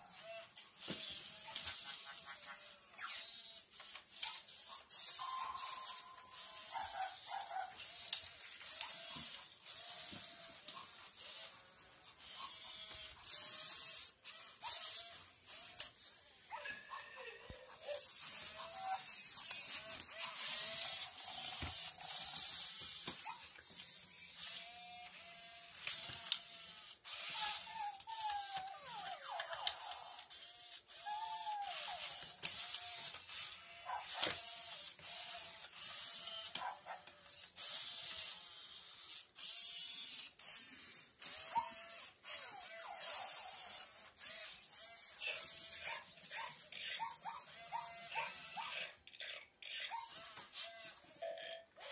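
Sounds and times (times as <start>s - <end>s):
toy gear motors whirring: 0.0s - 51.9s.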